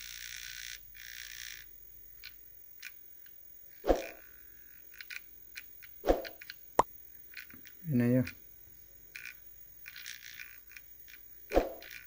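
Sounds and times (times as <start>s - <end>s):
faint ticks: 0.0s - 3.4s, 4.3s - 6.6s, 7.2s - 12.0s.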